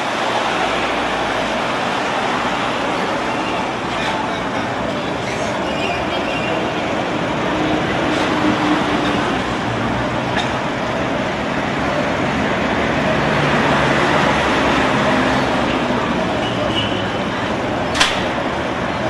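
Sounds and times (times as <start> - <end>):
electric tram running: 0.0 - 19.0
road vehicles passing: 0.0 - 19.0.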